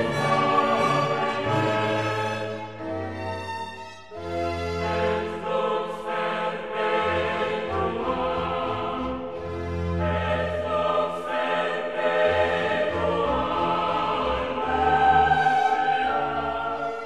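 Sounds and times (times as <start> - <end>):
choir singing slow chords: 0.0 - 17.0.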